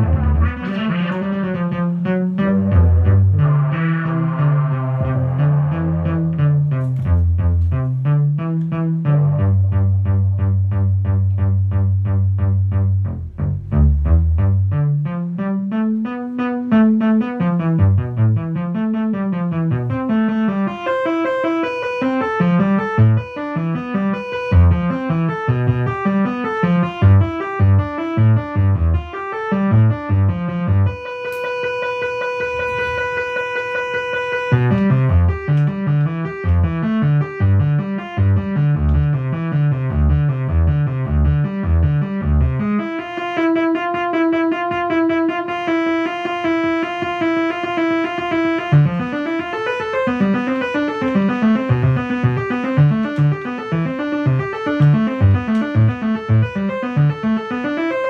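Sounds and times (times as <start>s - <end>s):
low bass line: 0.0s - 16.1s, 16.7s - 20.4s, 22.4s - 31.1s, 32.4s - 43.1s, 50.1s - 57.6s
electric piano notes: 0.0s - 58.0s.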